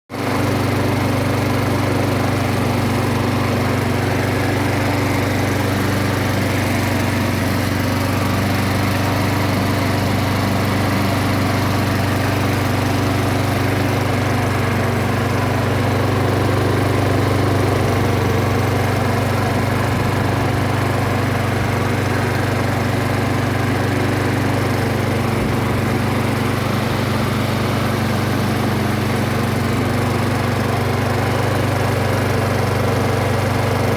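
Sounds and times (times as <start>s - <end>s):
lawnmower engine running: 0.1s - 33.9s.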